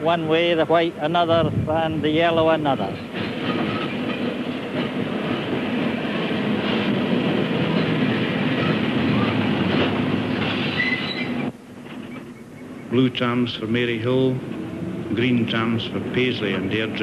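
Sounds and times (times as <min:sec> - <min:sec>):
tram wheels rumbling on rails: 0:00.0 - 0:17.0.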